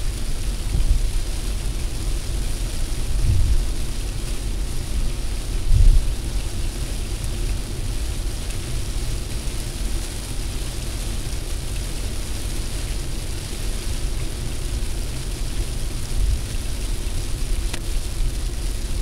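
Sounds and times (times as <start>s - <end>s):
rain hissing on car: 0.0s - 19.0s
road and wind rumble: 0.0s - 19.0s.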